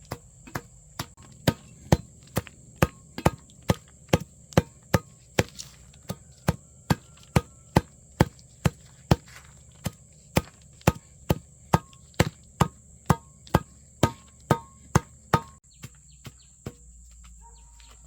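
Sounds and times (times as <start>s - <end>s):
blade chopping: 0.0s - 16.0s.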